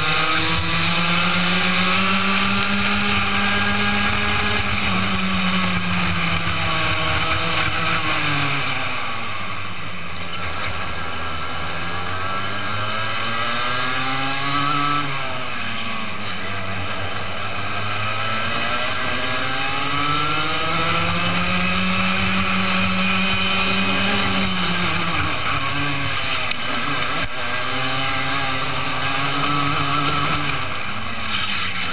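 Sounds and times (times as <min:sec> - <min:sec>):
kart engine revving: 0:00.0 - 0:31.9.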